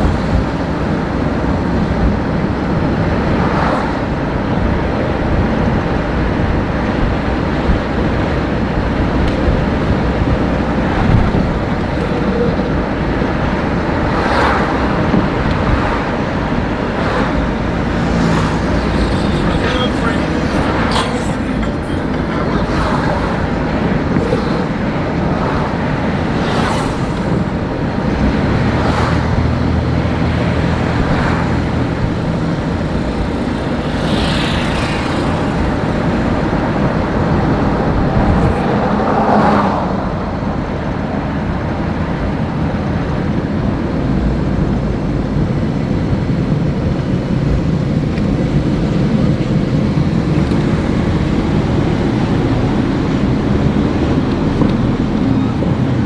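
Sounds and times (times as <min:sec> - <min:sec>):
car engine and tyre noise: 0:00.0 - 0:56.0
passing traffic: 0:00.0 - 0:56.0.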